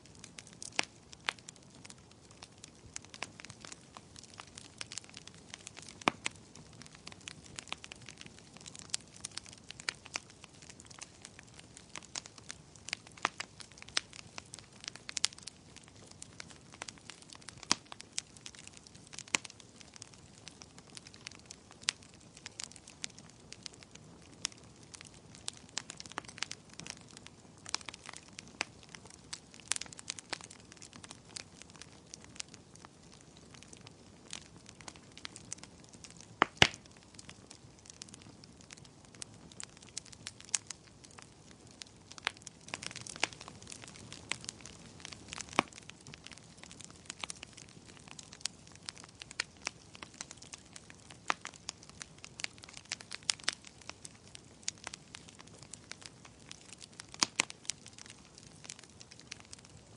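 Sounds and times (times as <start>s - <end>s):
soft hiss of burning: 0.0s - 59.9s
wood fire crackling: 0.0s - 59.9s.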